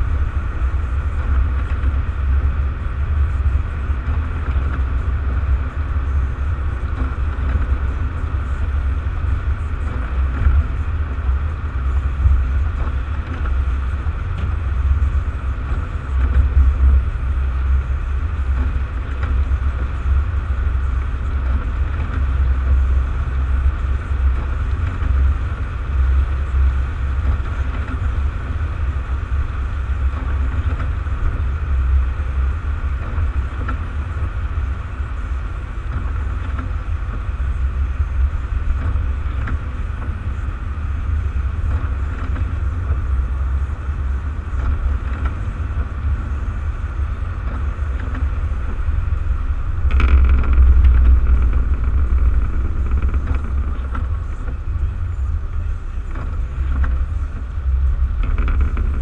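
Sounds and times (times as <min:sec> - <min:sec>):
car driving on wet road: 0:00.8 - 0:49.9.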